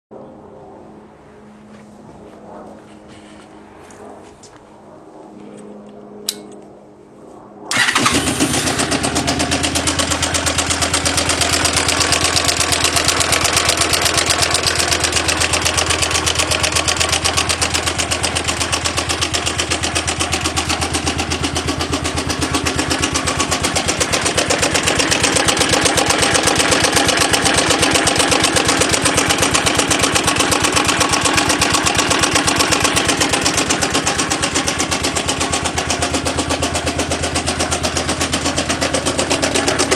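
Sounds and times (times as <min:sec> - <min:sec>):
engine running with fast pulse: 0:00.2 - 0:39.9.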